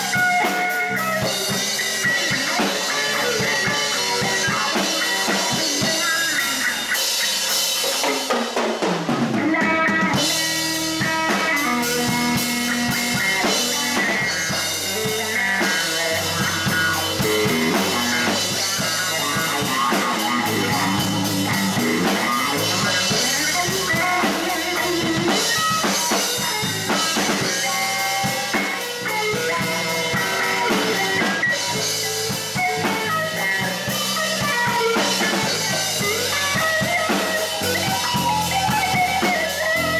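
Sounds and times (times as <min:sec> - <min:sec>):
electric bass: 0:00.0 - 0:08.0, 0:09.1 - 0:39.9
blues band playing: 0:00.0 - 0:39.9
drum kit: 0:00.0 - 0:39.9
electric guitar: 0:00.0 - 0:39.9.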